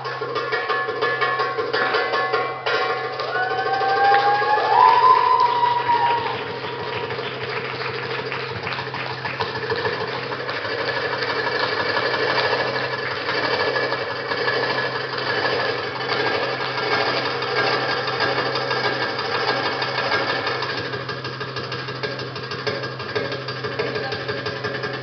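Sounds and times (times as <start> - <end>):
goblet drum fast roll: 0.0 - 25.0.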